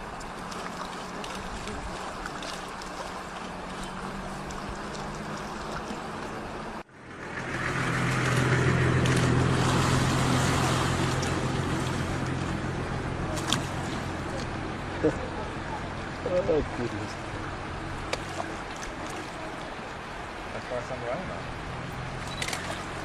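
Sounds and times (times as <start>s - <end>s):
engine running: 0.0s - 23.0s
water noise: 0.0s - 23.0s.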